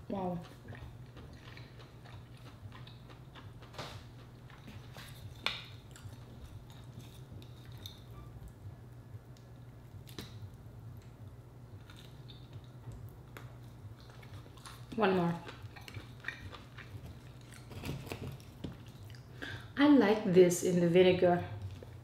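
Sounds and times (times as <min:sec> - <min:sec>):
low steady hum: 0:00.0 - 0:22.0
chewing and mouth sounds: 0:00.2 - 0:19.7, 0:21.6 - 0:22.0.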